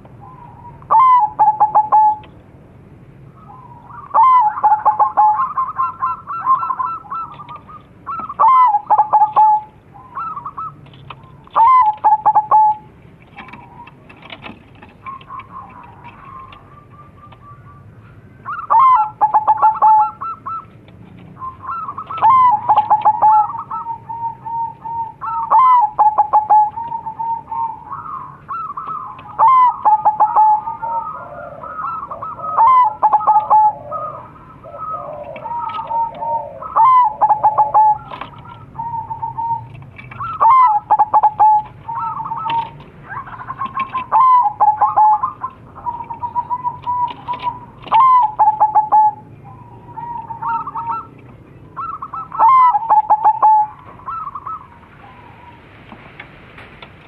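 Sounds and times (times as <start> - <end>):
doves cooing with rolling trill: 0.0 - 57.0.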